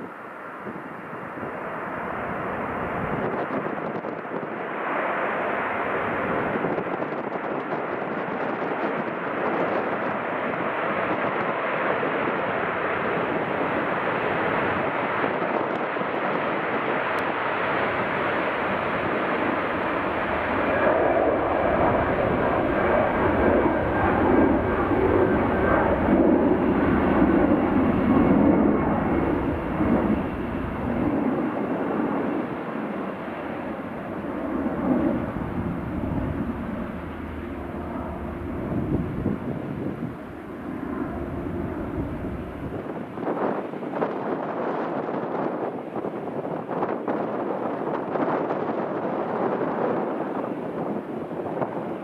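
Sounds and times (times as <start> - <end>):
jet engines running: 0.0 - 52.0.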